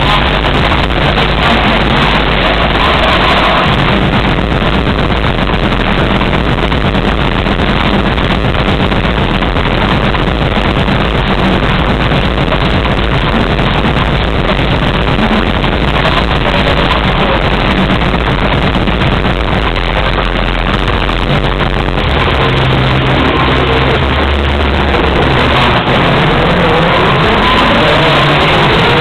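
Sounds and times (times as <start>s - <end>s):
distorted live stage show din: 0.0s - 29.0s.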